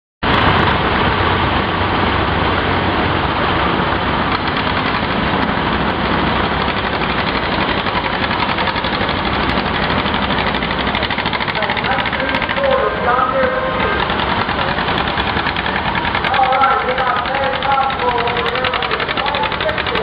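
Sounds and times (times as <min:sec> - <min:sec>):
tractor engine running: 0:00.2 - 0:20.0.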